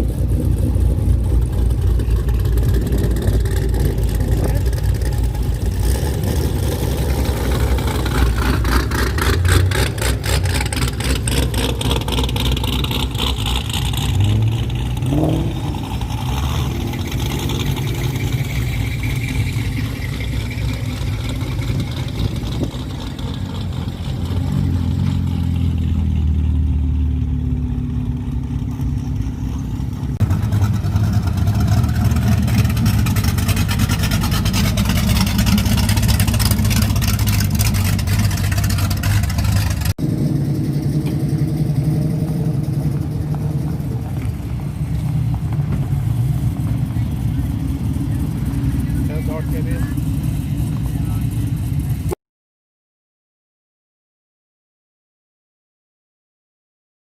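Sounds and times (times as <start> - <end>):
car engines running: 0.0 - 52.2
engine revving: 0.0 - 52.2.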